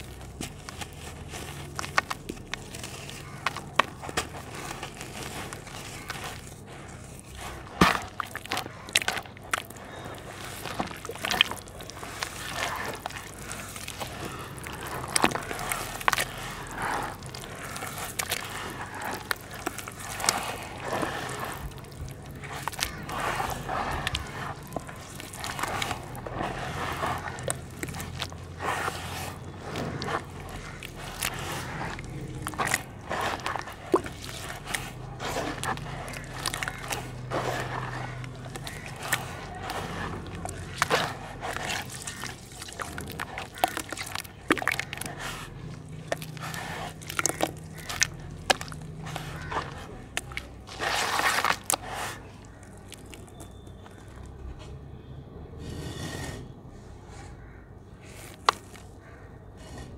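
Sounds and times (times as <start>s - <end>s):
small splats and drips: 0.0s - 54.4s
wet mud squishing and sloshing: 0.0s - 55.2s, 56.6s - 59.9s.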